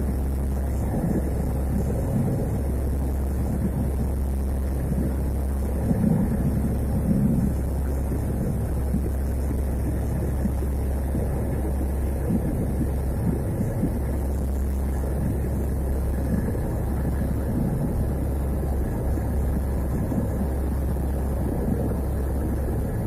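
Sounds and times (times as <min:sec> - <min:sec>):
turboprop engines droning in cabin: 0:00.0 - 0:23.0.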